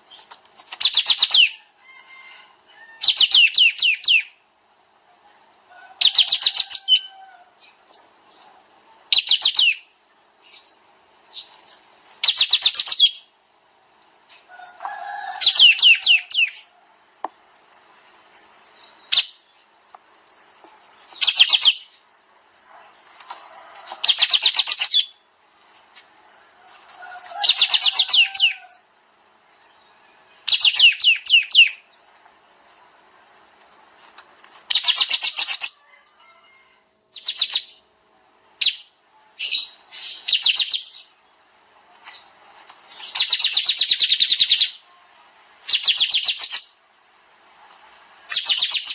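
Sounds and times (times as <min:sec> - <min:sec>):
songbird singing in rapid bursts: 0:00.0 - 0:05.0, 0:06.0 - 0:13.6, 0:14.2 - 0:16.7, 0:17.5 - 0:33.2, 0:34.6 - 0:37.9, 0:38.5 - 0:44.8, 0:45.5 - 0:46.9, 0:48.1 - 0:48.9.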